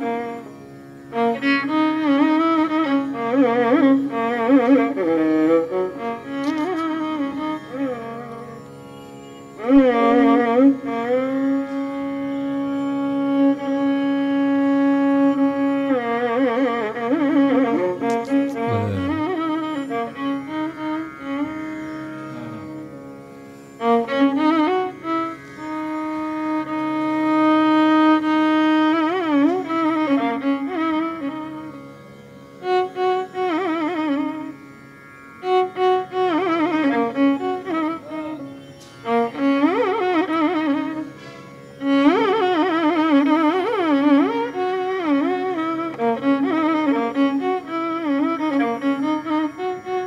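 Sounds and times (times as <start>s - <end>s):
bowed string instrument: 0.0s - 50.0s.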